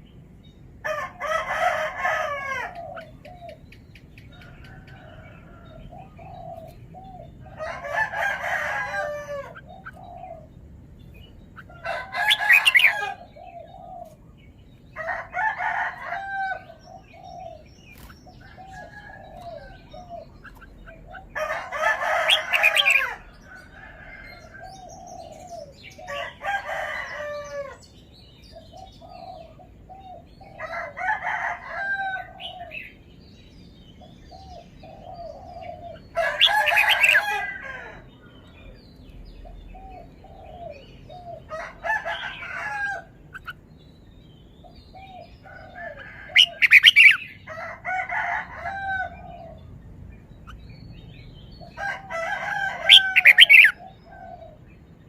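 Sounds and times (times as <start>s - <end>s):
bird warbling song: 0.0s - 31.0s, 32.1s - 47.5s, 48.2s - 55.0s.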